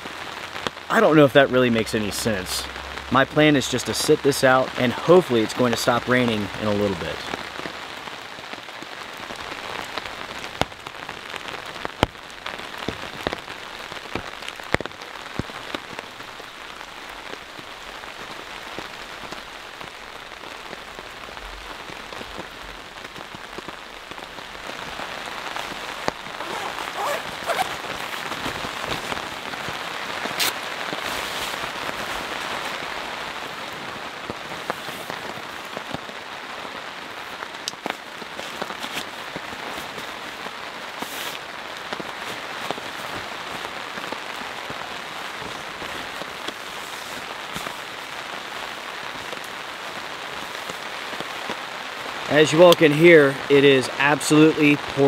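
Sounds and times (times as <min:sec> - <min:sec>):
rain pouring: 0:00.0 - 0:55.0
raindrops tapping on a tarp: 0:00.0 - 0:55.0.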